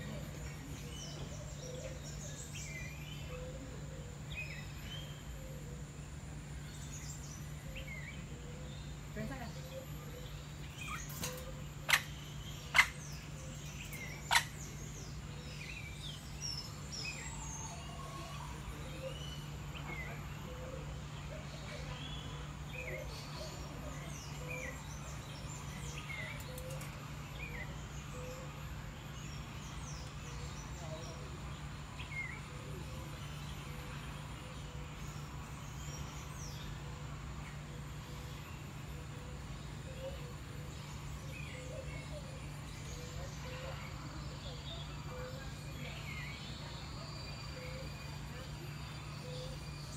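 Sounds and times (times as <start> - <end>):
birds chirping: 0.0 - 49.9
steady low hum: 0.0 - 49.9.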